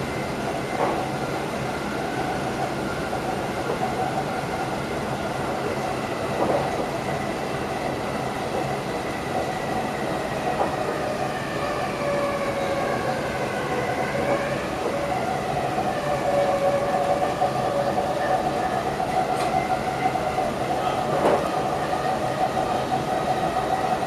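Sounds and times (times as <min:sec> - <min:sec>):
train rolling on rails: 0:00.0 - 0:24.0.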